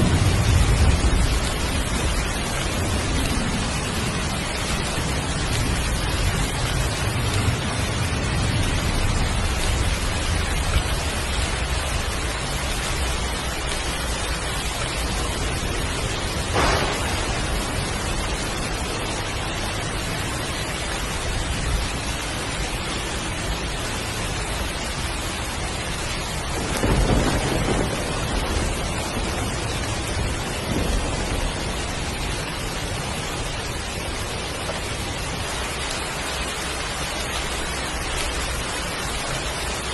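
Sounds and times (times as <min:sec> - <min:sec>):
thunder claps: 0:00.0 - 0:22.2, 0:25.4 - 0:39.9
heavy rain falling: 0:00.0 - 0:39.9
low rolling thunder: 0:00.0 - 0:39.9.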